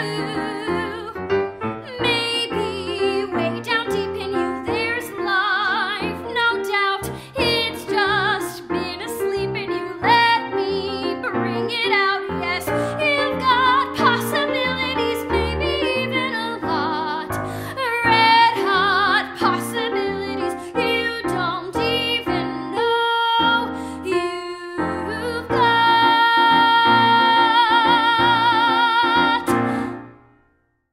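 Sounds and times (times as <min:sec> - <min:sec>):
woman singing with vibrato: 0:00.0 - 0:01.2, 0:01.9 - 0:29.9
piano accompaniment: 0:00.0 - 0:30.7.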